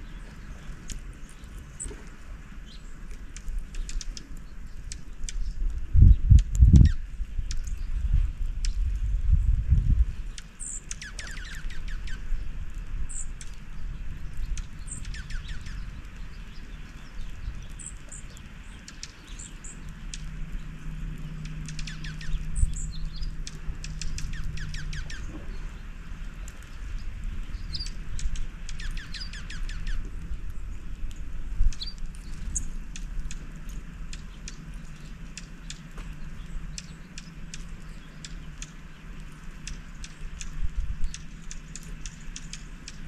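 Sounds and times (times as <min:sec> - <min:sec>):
rapid repeated bird call notes: 0:00.0 - 0:08.9, 0:10.0 - 0:43.0
low background rumble: 0:00.0 - 0:43.0
songbirds chirping: 0:00.0 - 0:43.0.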